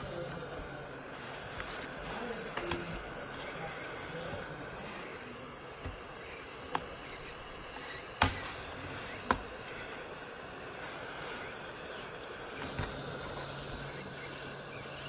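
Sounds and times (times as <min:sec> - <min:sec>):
heat gun hissing: 0:00.0 - 0:15.0.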